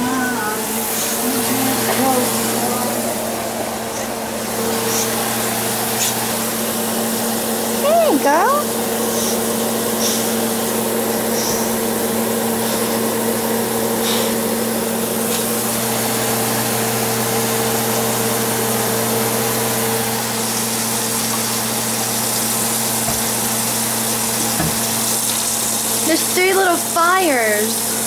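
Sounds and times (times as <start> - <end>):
range hood fan humming: 0.0 - 28.0.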